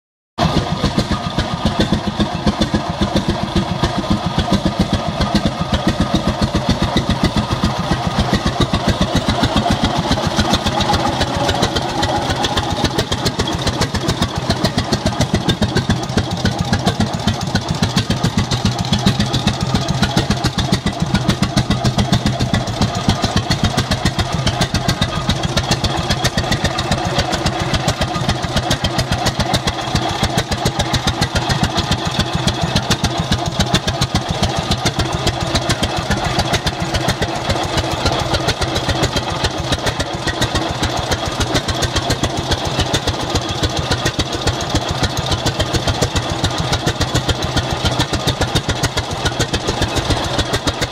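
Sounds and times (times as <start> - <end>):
tractor engine running: 0.4 - 50.9.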